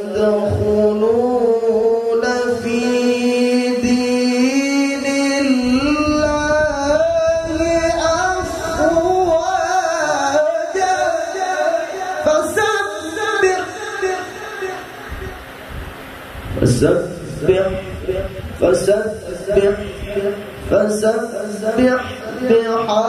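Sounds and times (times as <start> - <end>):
man chanting into a microphone: 0.0 - 15.4, 16.6 - 23.0.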